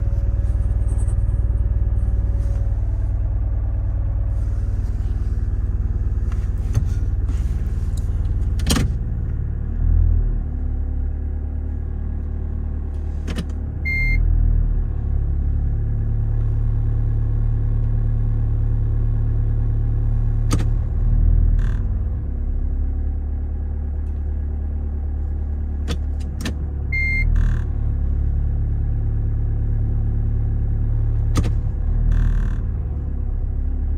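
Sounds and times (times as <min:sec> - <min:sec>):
car engine droning: 0:00.0 - 0:33.9.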